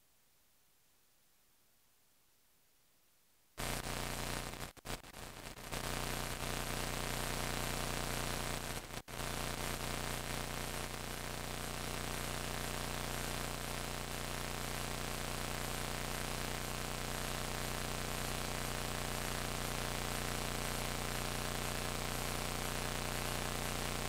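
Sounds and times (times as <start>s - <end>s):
electrical hiss: 3.6s - 24.0s.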